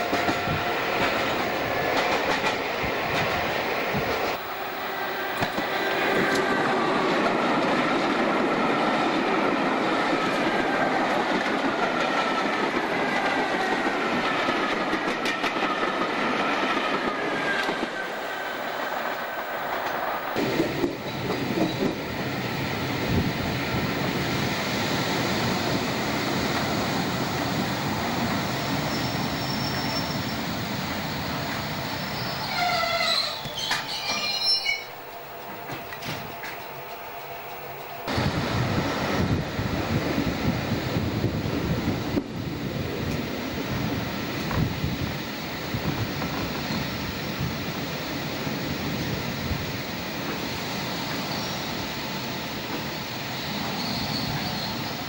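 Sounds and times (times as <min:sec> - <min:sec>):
electric train running past: 0:00.0 - 0:55.0
train whine: 0:00.0 - 0:55.0.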